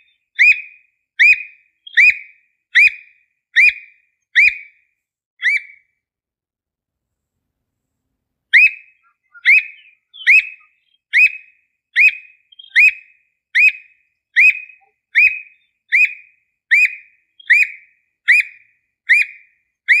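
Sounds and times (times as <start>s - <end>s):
bird calling sharp whistled notes: 0.0s - 4.8s, 5.4s - 5.9s, 8.6s - 20.0s.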